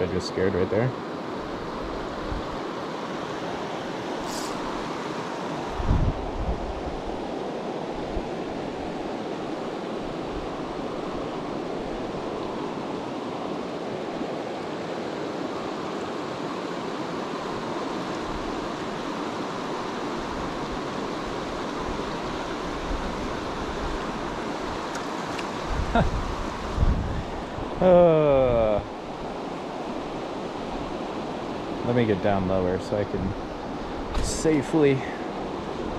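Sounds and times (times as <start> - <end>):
stream rushing over rocks: 0.0 - 32.7, 33.4 - 35.9.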